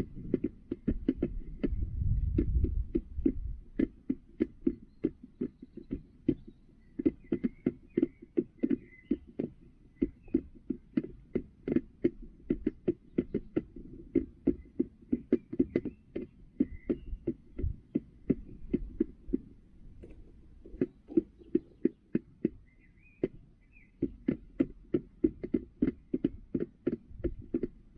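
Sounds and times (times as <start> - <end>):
hen pecking plastic tray: 0.0 - 27.9.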